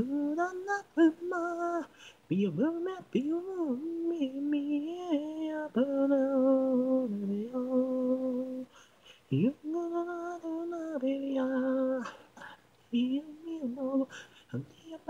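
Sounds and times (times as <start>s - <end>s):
solo voice singing: 0.0s - 15.0s.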